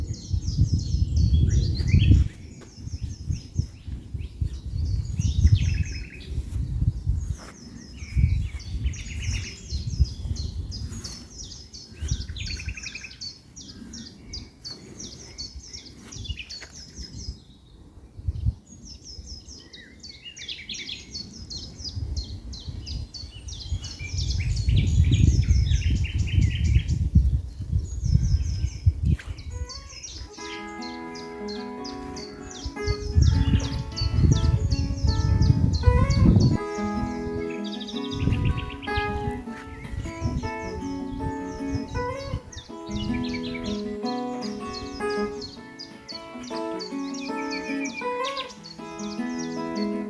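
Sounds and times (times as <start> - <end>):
songbirds singing: 0.0 - 50.0.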